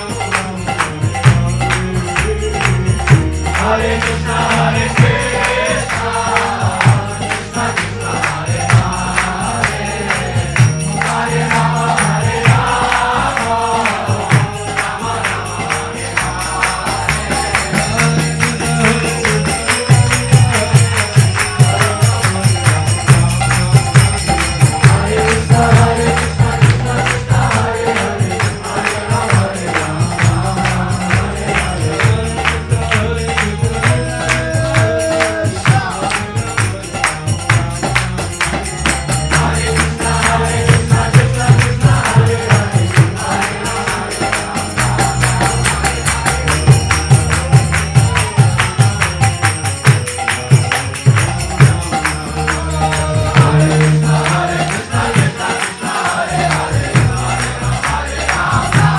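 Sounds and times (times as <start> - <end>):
jingling percussion beat: 0.0 - 58.9
people singing: 0.0 - 58.9.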